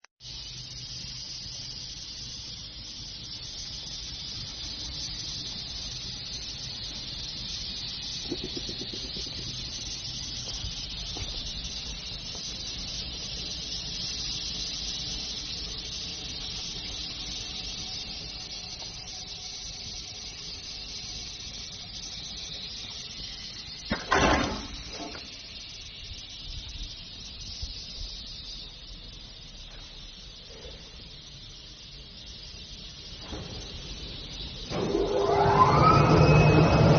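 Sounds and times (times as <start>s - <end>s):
cutting machine hiss and hum: 0.3s - 36.9s.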